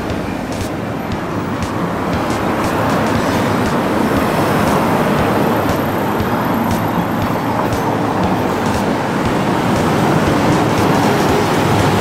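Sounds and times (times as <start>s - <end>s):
road traffic noise: 0.0s - 12.0s
tram running: 0.0s - 12.0s.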